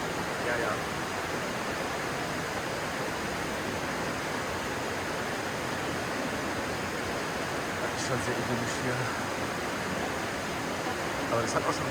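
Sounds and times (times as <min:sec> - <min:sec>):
stream water rushing: 0:00.0 - 0:11.9.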